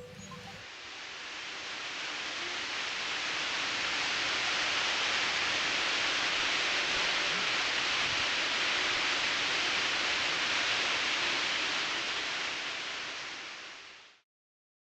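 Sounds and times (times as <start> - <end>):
steady hissing rushing noise: 0.0 - 14.2.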